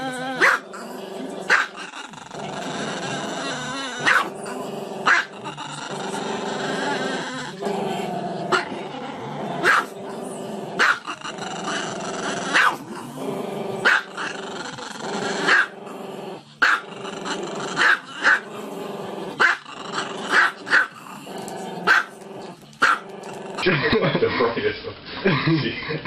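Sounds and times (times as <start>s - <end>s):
small dog growling: 0.0s - 23.7s.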